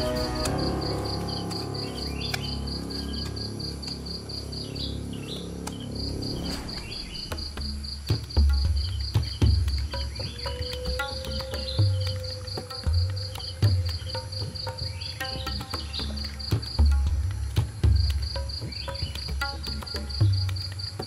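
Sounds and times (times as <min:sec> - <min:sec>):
insect chirping in pulses: 0:00.0 - 0:21.0.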